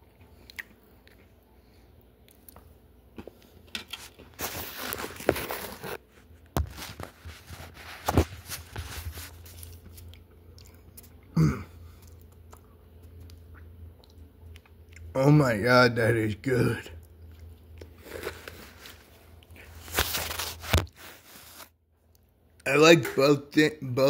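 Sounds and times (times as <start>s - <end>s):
cookies being bitten and chewed: 0.0s - 15.2s, 16.6s - 22.7s.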